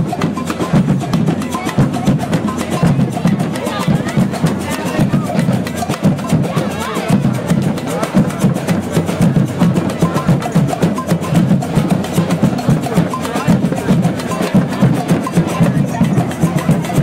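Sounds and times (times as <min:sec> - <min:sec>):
drums beating: 0:00.0 - 0:17.0.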